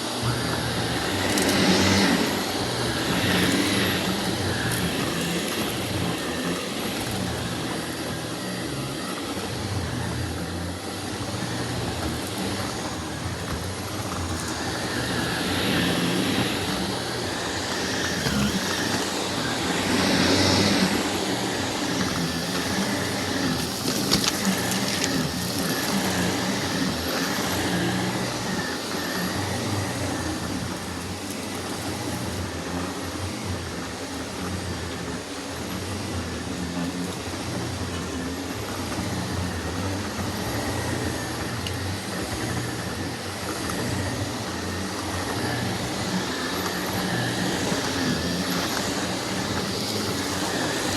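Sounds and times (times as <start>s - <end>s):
vacuum cleaner running on a rug: 0.0s - 50.9s.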